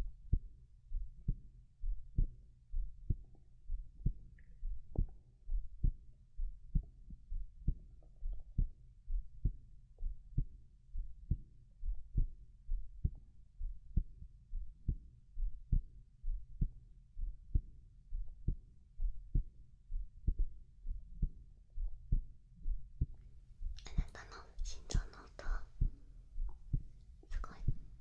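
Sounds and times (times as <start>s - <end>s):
heartbeat thumps: 0.0s - 27.9s.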